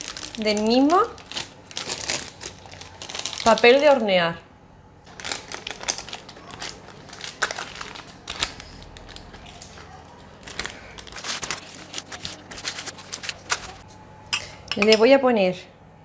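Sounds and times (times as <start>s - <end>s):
parchment paper crinkling: 0.0s - 4.0s, 5.1s - 13.9s.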